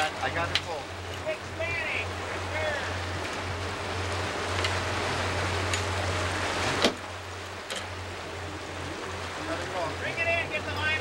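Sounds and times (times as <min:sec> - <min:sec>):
boat engine humming: 0:00.0 - 0:11.0
sea wash: 0:00.0 - 0:11.0.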